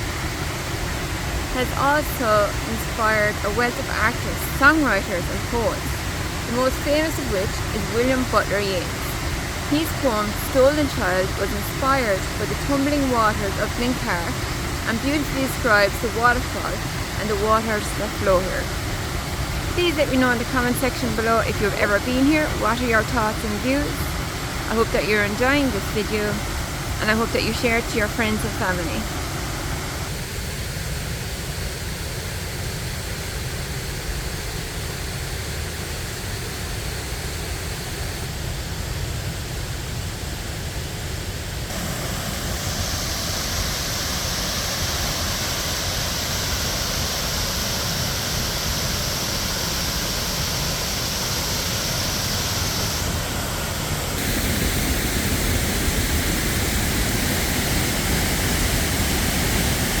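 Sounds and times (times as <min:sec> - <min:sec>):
waterfall rushing: 0:00.0 - 0:30.3, 0:41.5 - 1:00.0.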